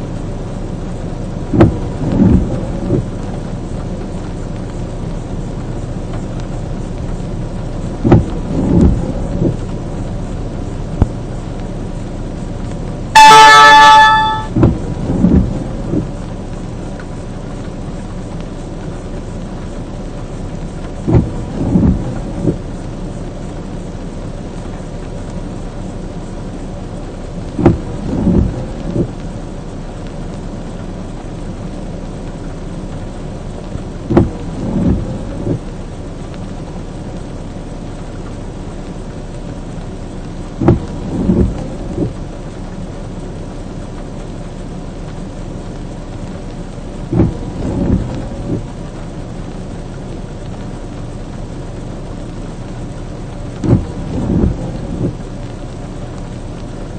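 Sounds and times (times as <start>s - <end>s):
rain on a vehicle: 0.0s - 56.9s
windshield wipers swishing: 0.2s - 56.9s.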